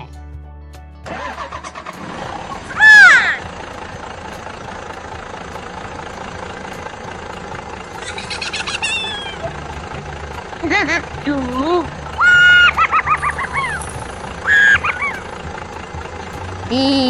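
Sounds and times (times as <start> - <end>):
cartoon vehicle engine running: 1.0 - 17.0.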